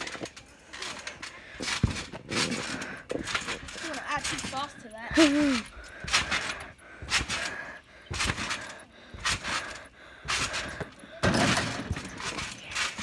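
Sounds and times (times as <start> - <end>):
trampoline springs bouncing: 0.0 - 13.0.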